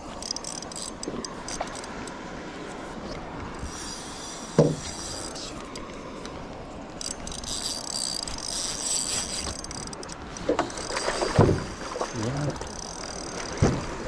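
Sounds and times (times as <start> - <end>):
fishing reel drag clicking: 0.0 - 2.2, 3.6 - 6.3, 7.0 - 14.0.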